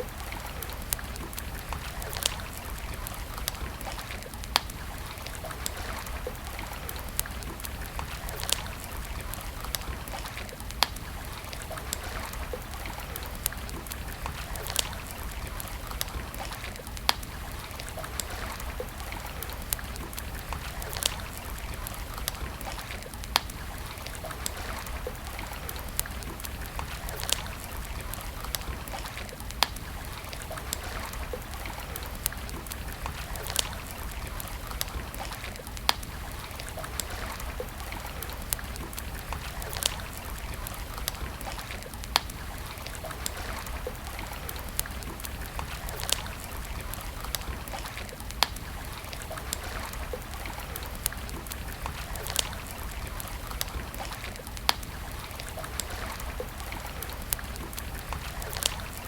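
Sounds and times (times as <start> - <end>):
campfire crackling and popping: 0.0 - 59.0
flowing water: 0.0 - 59.0.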